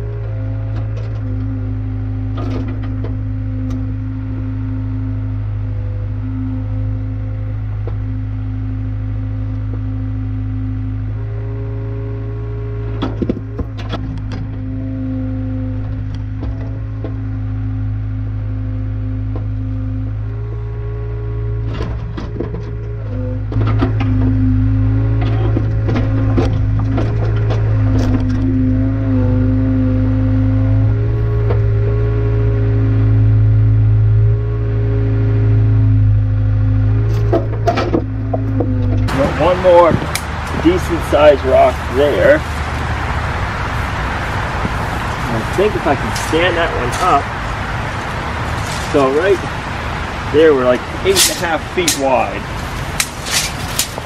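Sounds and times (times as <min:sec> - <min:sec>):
excavator engine running: 0:00.0 - 0:54.0
hydraulic whine: 0:00.0 - 0:54.0.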